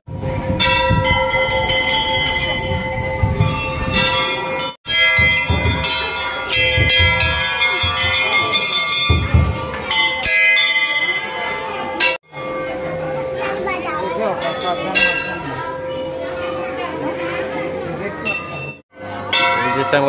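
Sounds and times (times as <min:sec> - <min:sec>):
low hubbub: 0:00.1 - 0:20.0
temple bells clanging: 0:00.2 - 0:20.0.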